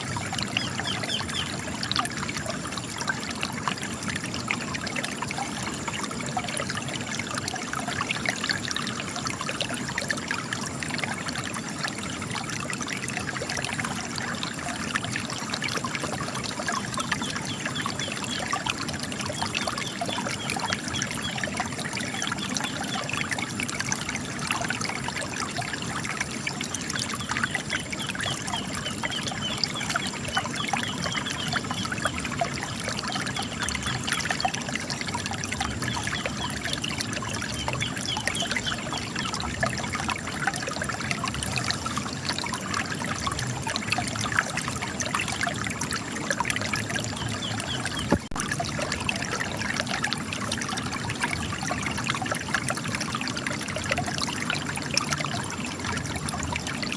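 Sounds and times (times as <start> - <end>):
spring water trickling and splashing: 0.0 - 56.9.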